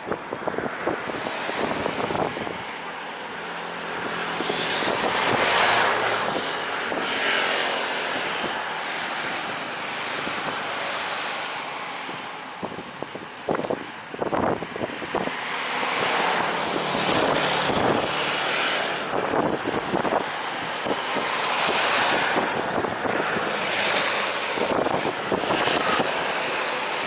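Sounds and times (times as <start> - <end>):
jet airliner passing low: 0.0 - 27.0.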